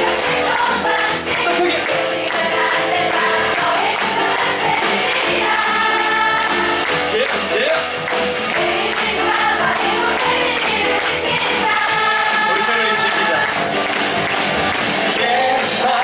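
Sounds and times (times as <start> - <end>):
voices singing in harmony: 0.0 - 6.9, 8.6 - 16.0
instrumental accompaniment: 0.0 - 16.0.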